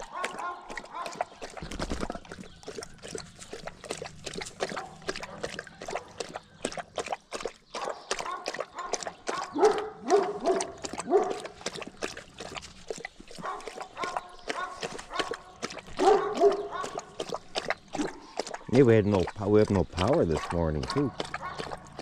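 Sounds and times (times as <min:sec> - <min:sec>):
dog lapping water: 0:00.0 - 0:22.0.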